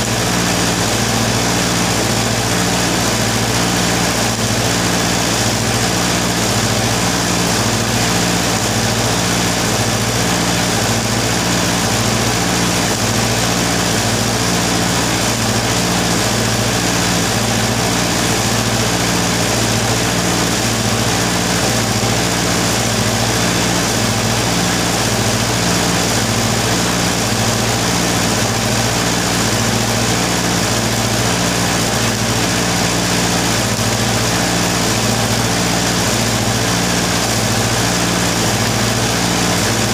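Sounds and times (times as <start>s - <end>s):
welding arc crackling and hissing: 0.0s - 39.9s
welding transformer humming: 0.0s - 39.9s.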